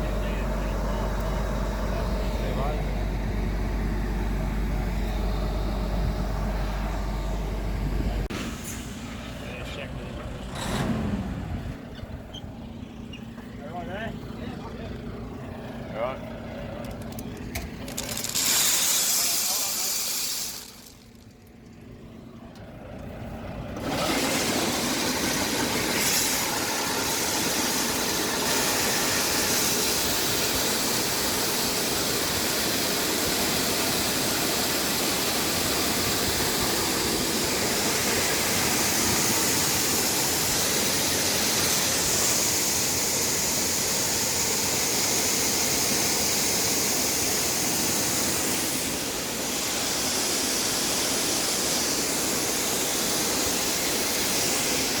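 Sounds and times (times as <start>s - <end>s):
farm harvesting machinery running: 0.0s - 55.0s.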